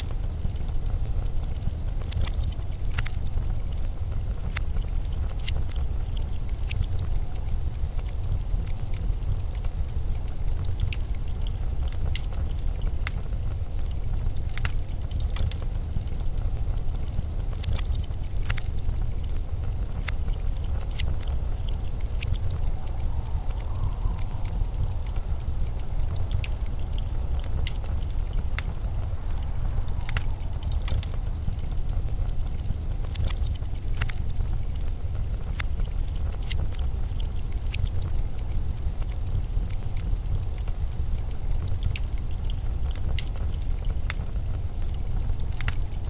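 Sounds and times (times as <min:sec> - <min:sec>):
blizzard wind rumble: 0:00.0 - 0:46.0
sharp crackles and ticks: 0:00.0 - 0:46.0.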